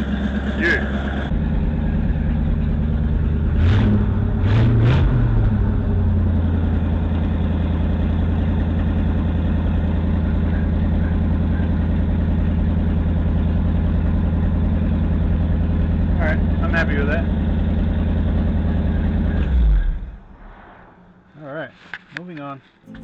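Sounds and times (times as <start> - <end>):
car engine revving and idling: 0.0 - 20.3.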